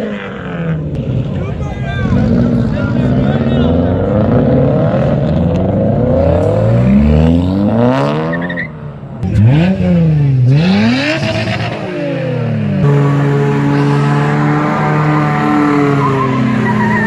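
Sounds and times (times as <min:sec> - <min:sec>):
car engines accelerating hard: 0:00.0 - 0:17.0
engine revved up and down: 0:02.0 - 0:08.5, 0:09.2 - 0:17.0.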